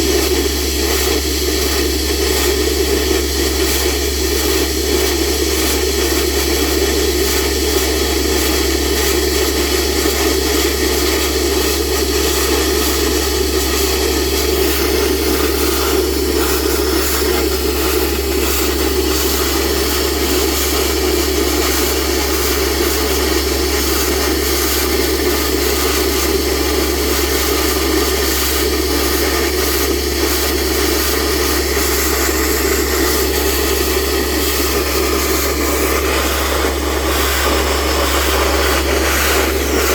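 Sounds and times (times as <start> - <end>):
compressor machine running loudly: 0.0 - 39.9.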